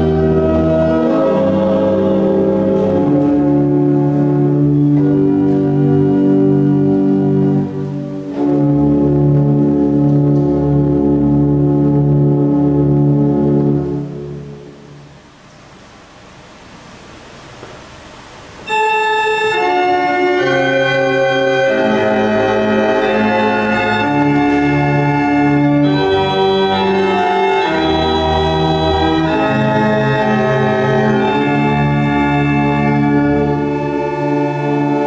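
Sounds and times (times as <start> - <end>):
church organ playing chords: 0.0 - 15.4, 18.6 - 35.0.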